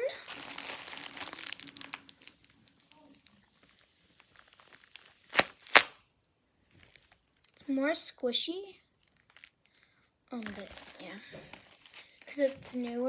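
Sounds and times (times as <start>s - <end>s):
paper crinkling when squeezed: 0.0s - 6.0s, 6.7s - 7.6s, 9.0s - 13.0s.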